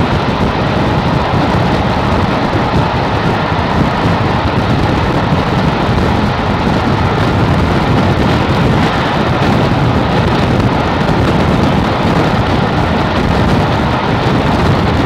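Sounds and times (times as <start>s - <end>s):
train rushing at speed: 0.0s - 15.0s
wind buffeting microphone: 0.0s - 15.0s.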